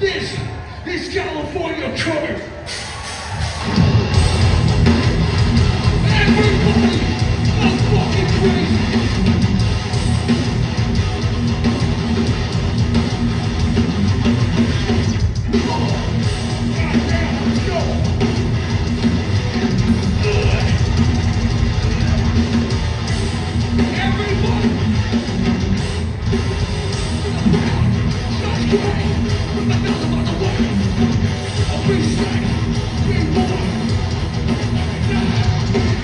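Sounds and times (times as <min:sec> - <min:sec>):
hardcore punk band playing: 0:00.0 - 0:36.0.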